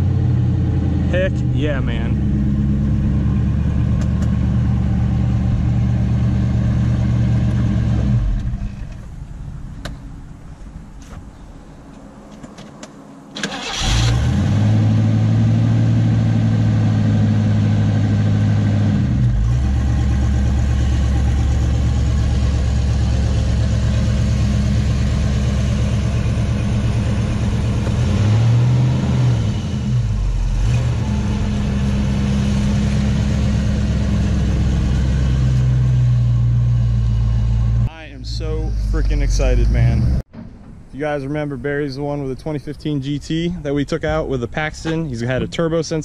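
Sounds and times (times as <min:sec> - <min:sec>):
car engine starting and idling: 0:00.0 - 0:46.0.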